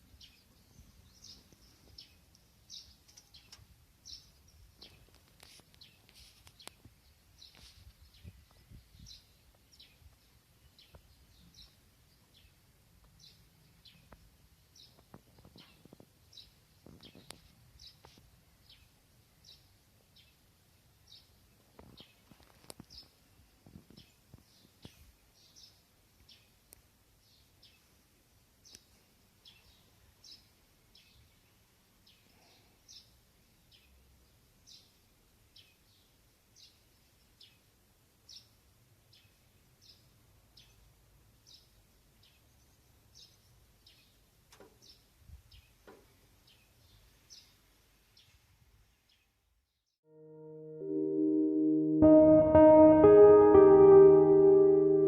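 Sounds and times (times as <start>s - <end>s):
faint bird chirping: 0.0s - 51.5s.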